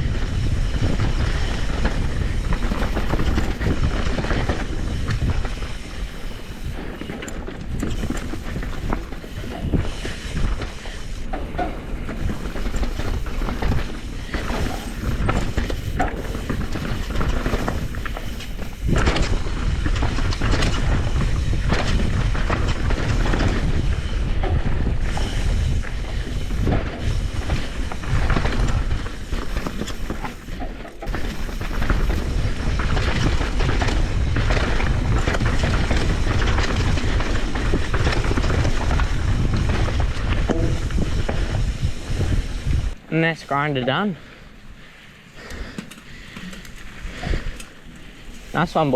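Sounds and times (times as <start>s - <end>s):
bike knocking and clattering: 0.0s - 43.0s, 44.8s - 48.9s
bike tyres rumbling over dirt: 0.0s - 48.9s.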